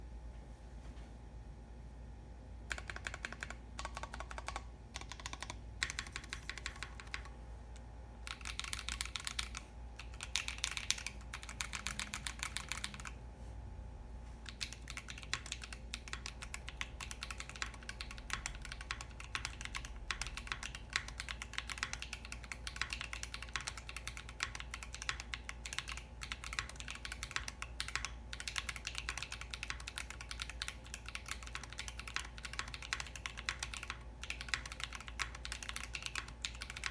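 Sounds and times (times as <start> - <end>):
mechanical keyboard typing: 2.7 - 7.4, 8.2 - 13.2, 14.4 - 36.9.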